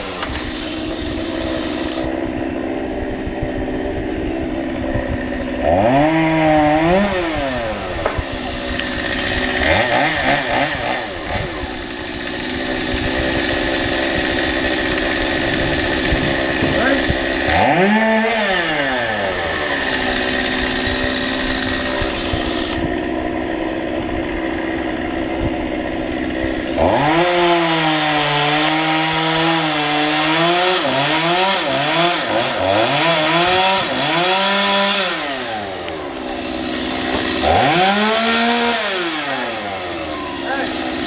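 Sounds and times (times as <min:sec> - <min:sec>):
chainsaw revving and cutting: 0:00.0 - 0:41.0.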